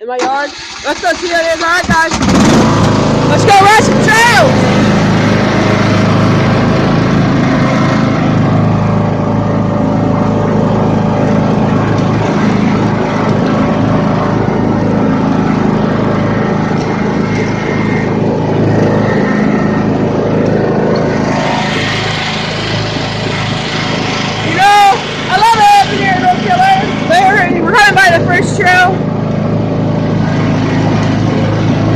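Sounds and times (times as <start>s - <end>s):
riding lawn mower engine: 0.0s - 31.9s.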